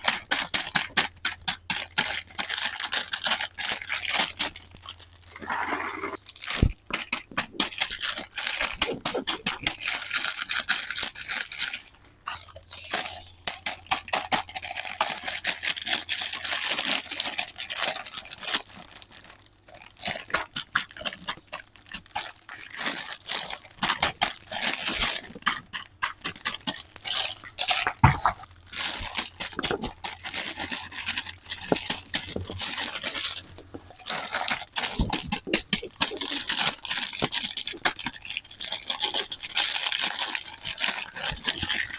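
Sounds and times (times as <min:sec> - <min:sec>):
packaging crinkling and tearing: 0:00.0 - 0:41.9.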